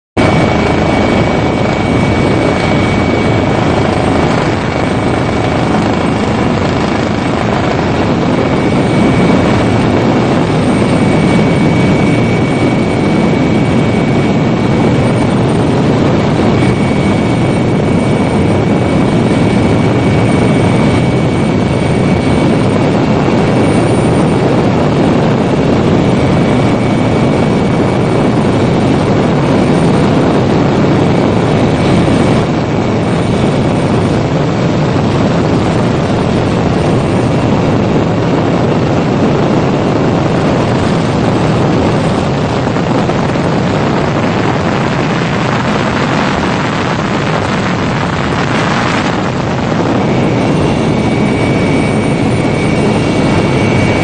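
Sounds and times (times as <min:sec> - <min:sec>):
faint high whine: 0:00.2 - 0:54.0
helicopter rotor and engine: 0:00.2 - 0:54.0.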